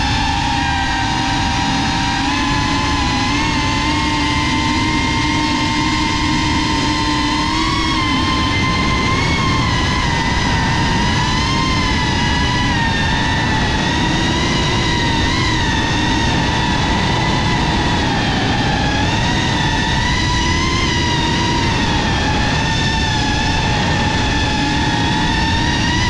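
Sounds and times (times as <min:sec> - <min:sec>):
drone motors whining: 0:00.0 - 0:26.0
wind rush: 0:00.0 - 0:26.0.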